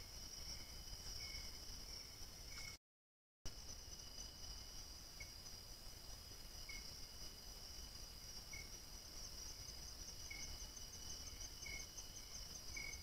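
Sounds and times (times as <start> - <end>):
insect high-pitched trill: 0.0 - 2.8, 3.5 - 13.0.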